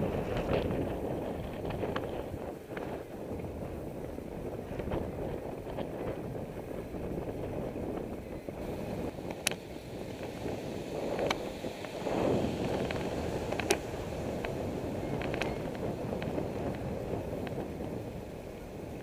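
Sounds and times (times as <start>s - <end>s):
bicycle rolling on pavement: 0.0s - 19.0s
wind on microphone: 0.0s - 19.0s.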